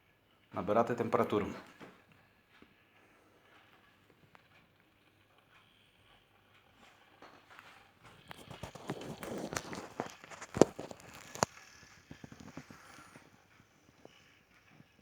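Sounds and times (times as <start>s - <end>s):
kettle crackling and ticking: 0.0s - 15.0s.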